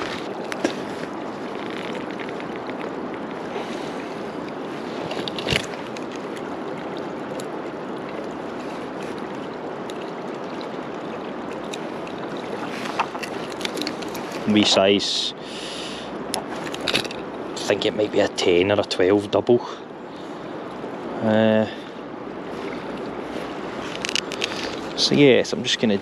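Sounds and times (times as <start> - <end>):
river water running: 0.0 - 26.0.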